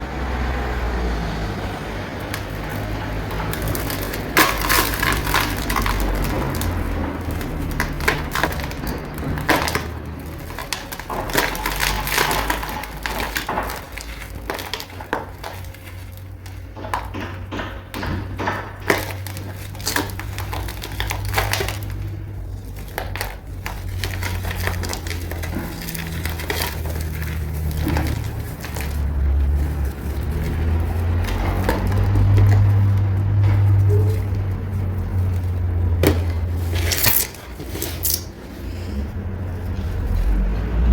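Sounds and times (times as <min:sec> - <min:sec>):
cement chunks being crushed: 0:01.6 - 0:40.9.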